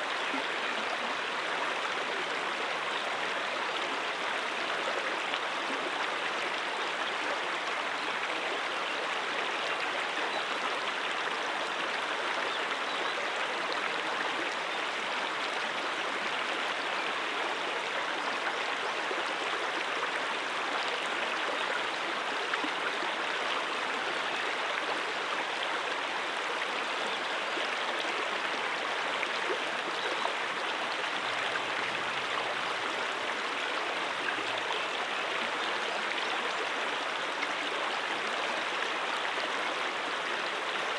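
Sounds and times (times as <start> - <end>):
stream water running over rocks: 0.0 - 40.9.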